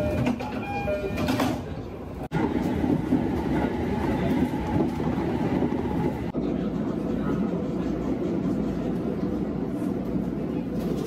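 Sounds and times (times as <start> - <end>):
train running noise: 0.0 - 11.0.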